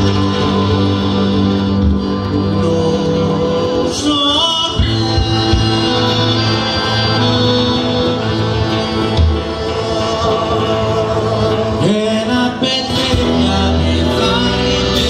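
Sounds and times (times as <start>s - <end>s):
instrumental accompaniment: 0.0s - 15.0s
man singing into a microphone: 0.0s - 15.0s.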